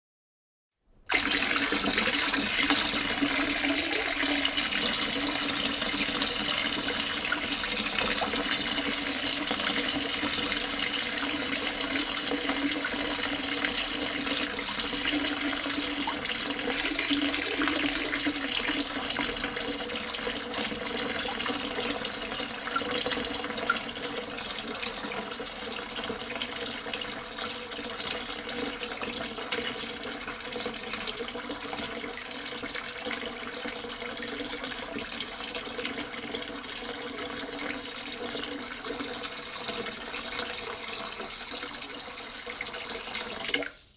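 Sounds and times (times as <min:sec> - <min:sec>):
water pouring into standing water: 0:01.1 - 0:43.9.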